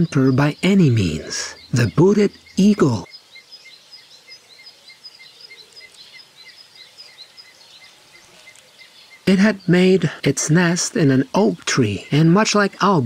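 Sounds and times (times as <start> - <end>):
eagle chicks peeping: 0.0 - 13.0.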